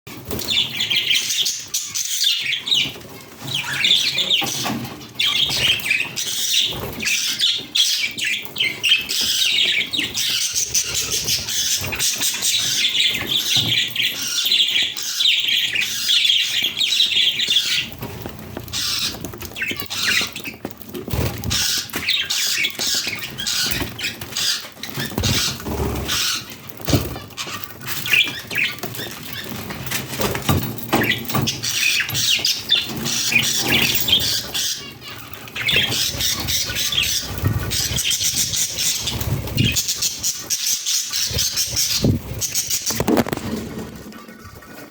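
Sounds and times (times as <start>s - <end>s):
budgerigars chirping and warbling: 0.1s - 44.9s.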